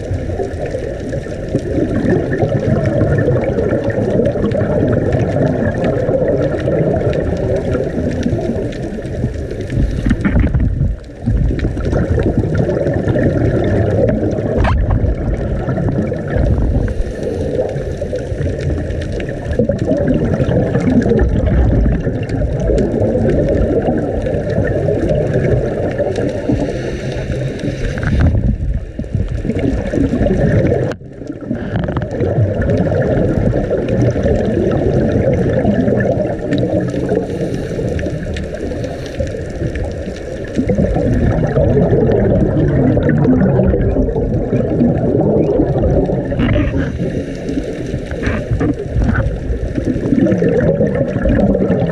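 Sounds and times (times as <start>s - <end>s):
underwater wave surge rumbling: 0.0s - 51.9s.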